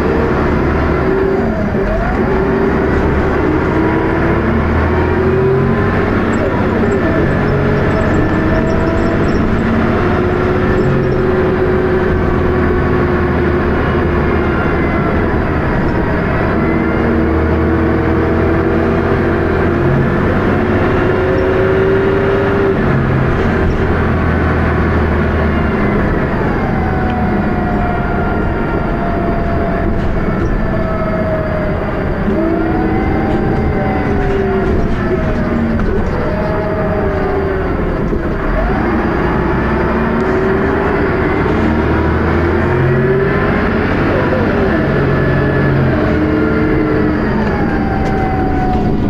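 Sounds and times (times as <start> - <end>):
bus diesel engine under load: 0.0 - 49.0
whining tones gliding: 0.0 - 49.0.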